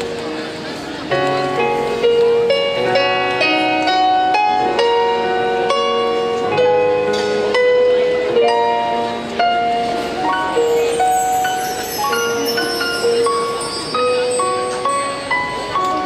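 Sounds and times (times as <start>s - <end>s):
slow piano ballad: 0.0s - 16.0s.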